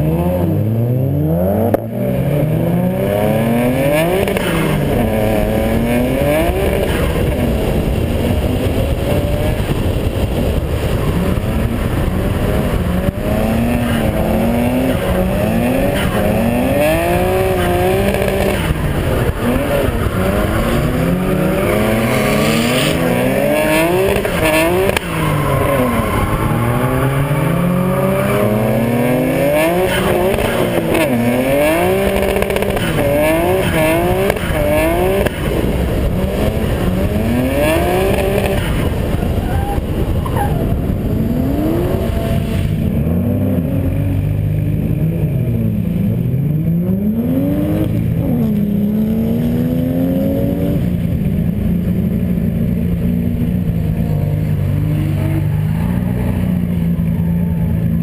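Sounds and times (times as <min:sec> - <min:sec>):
car engine revving hard: 0:00.0 - 0:57.2.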